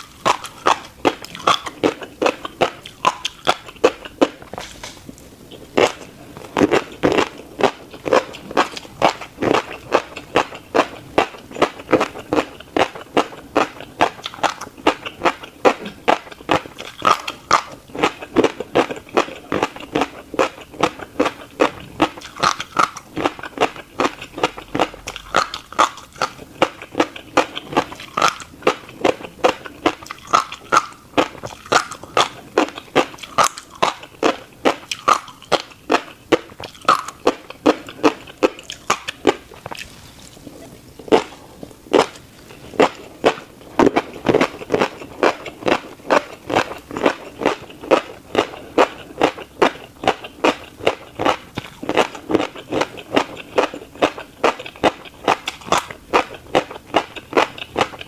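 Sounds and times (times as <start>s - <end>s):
person chewing crunchy seeds: 0.0s - 58.0s.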